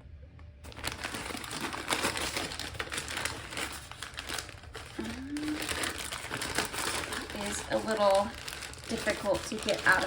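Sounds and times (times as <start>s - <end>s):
packaging bag crinkling: 0.6s - 10.0s.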